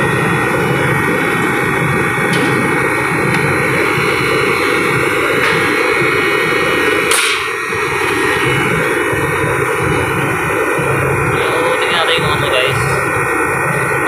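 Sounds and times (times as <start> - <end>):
refrigeration compressor running: 0.0 - 14.0.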